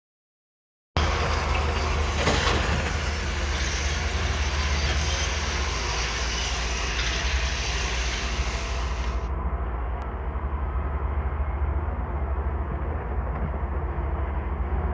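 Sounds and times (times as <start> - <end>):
diesel engine rumbling: 1.0 - 14.9.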